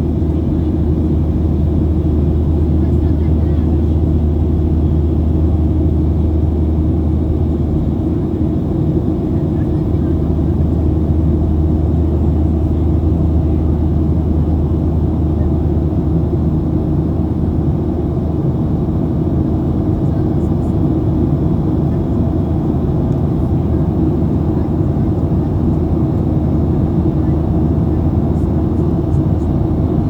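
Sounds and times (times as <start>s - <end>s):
constant low hum: 0.0s - 30.0s
jet engine cabin drone: 0.0s - 30.0s.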